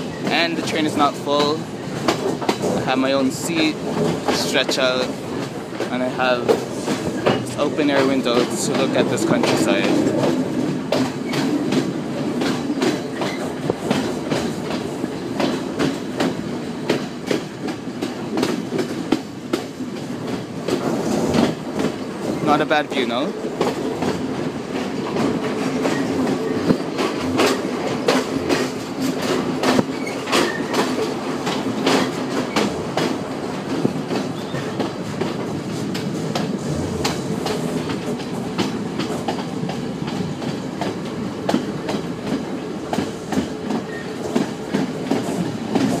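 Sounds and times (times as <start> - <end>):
train rumbling on track: 0.0 - 46.0
wheels clicking over rail joints: 0.0 - 46.0.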